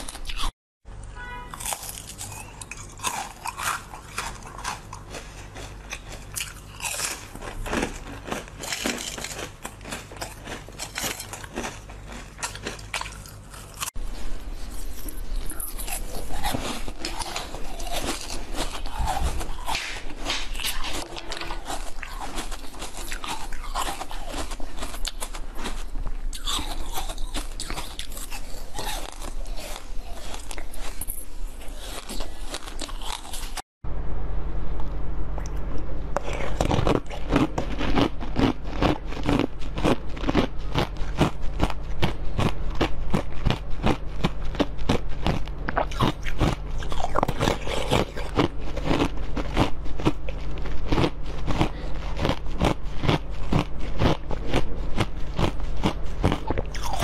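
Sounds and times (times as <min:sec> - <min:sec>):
chewing jelly sweets: 0:00.0 - 0:00.5, 0:01.5 - 0:33.6, 0:36.2 - 0:57.0
sharp crunching of candy: 0:00.0 - 0:00.5, 0:01.5 - 0:14.0, 0:14.7 - 0:33.6, 0:36.2 - 0:57.0.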